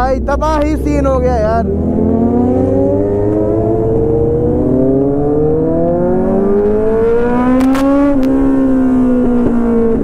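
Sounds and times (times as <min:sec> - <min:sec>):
low wind rumble: 0:00.0 - 0:10.0
motorcycle engine accelerating: 0:00.0 - 0:10.0.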